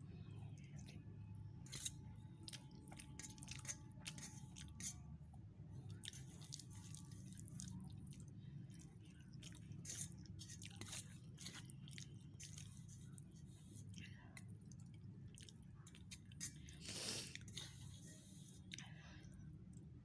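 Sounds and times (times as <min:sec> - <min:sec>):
low steady hum: 0:00.0 - 0:20.0
chewing: 0:01.6 - 0:05.0, 0:05.8 - 0:19.0.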